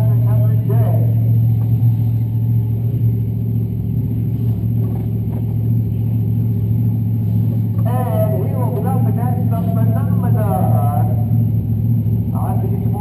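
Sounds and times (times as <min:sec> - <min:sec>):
supercharged engine idling: 0:00.0 - 0:13.0.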